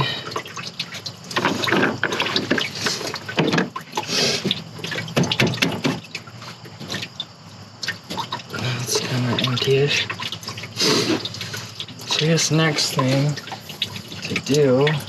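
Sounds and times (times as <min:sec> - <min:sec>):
coolant gurgling and splashing: 0:00.0 - 0:15.0.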